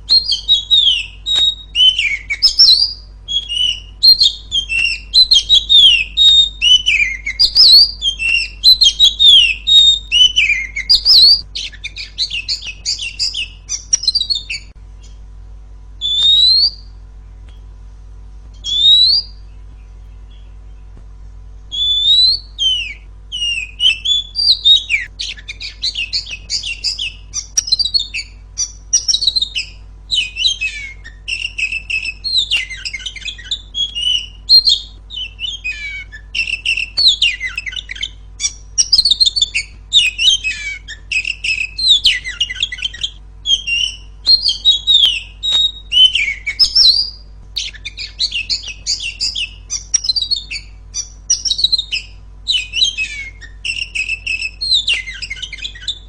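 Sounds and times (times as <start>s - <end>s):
bird singing: 0.0s - 15.3s, 15.9s - 17.7s, 18.5s - 56.0s
steady low hum: 0.0s - 56.0s.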